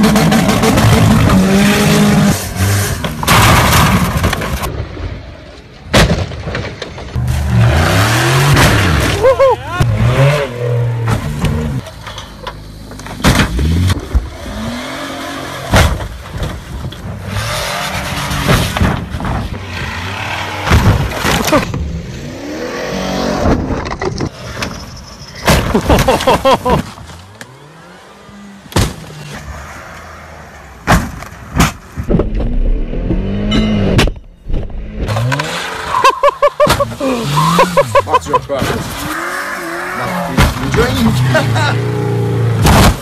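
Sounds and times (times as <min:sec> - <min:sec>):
car engines revving: 0:00.0 - 0:05.9, 0:06.6 - 0:43.0
cars crashing and thudding: 0:00.0 - 0:43.0.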